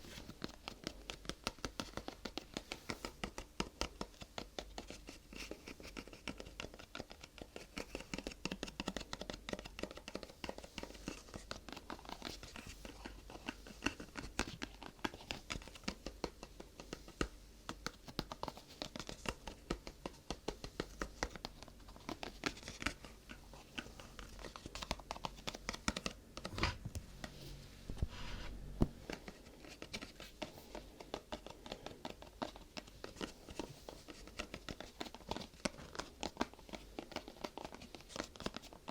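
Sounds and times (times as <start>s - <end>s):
fingers tapping and scratching objects: 0.1s - 27.4s, 28.8s - 38.9s.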